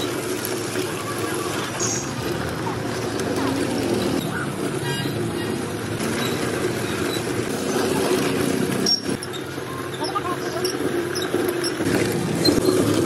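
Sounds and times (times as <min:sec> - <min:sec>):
traffic: 0:00.0 - 0:13.0
indistinct voices: 0:00.1 - 0:12.1.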